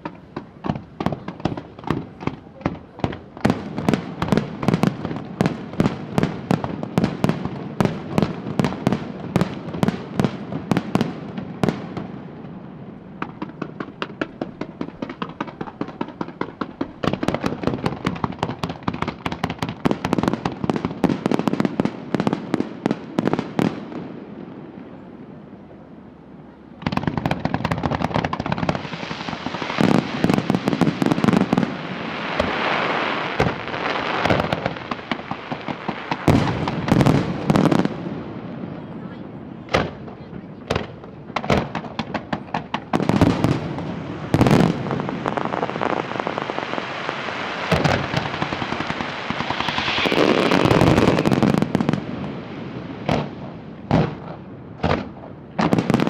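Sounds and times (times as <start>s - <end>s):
fireworks bursts and bangs: 0.0s - 25.0s, 26.8s - 56.0s.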